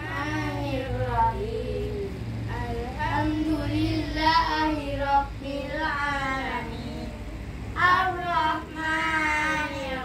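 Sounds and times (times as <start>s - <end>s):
children chanting a prayer: 0.0s - 10.0s.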